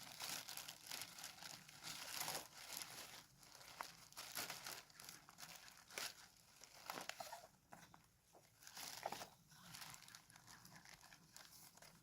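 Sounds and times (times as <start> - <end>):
plastic sheeting crinkling: 0.0 - 7.5, 8.3 - 12.0.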